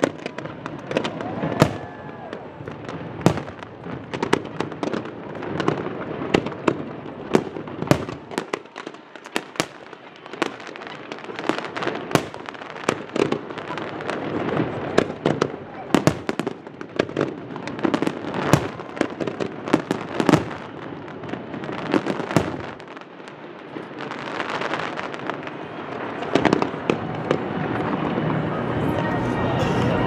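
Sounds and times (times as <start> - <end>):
firework bangs: 0.0 - 30.0
firework crackling: 0.0 - 30.0.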